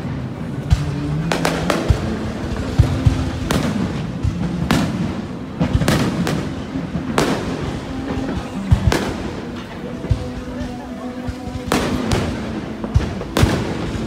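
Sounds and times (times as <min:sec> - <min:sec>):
fireworks bursting: 0:00.0 - 0:14.0
music playing: 0:00.0 - 0:14.0.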